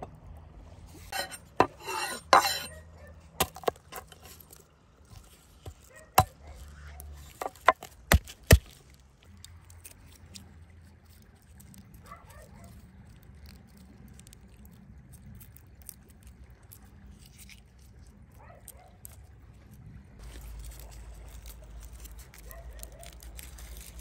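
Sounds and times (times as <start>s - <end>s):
garlic skins rustling: 0.8s - 14.4s, 15.0s - 24.0s.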